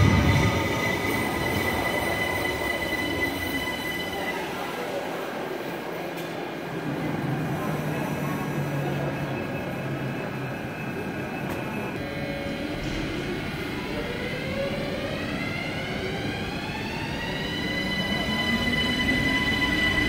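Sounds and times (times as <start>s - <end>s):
electric train hum: 0.0s - 20.0s.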